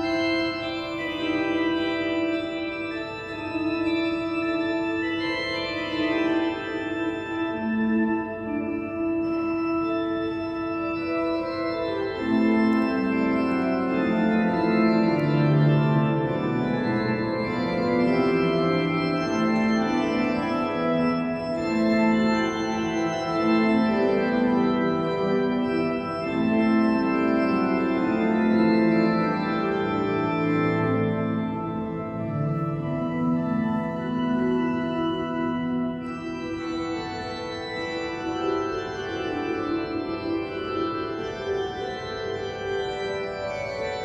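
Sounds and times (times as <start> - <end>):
pipe organ playing chords: 0.0 - 44.0.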